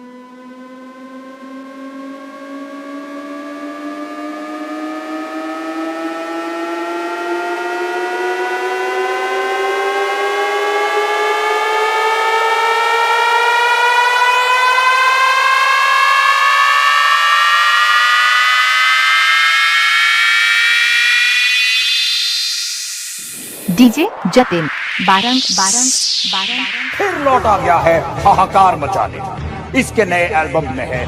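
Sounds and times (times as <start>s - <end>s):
synthesized riser rising in pitch: 0.0s - 28.9s.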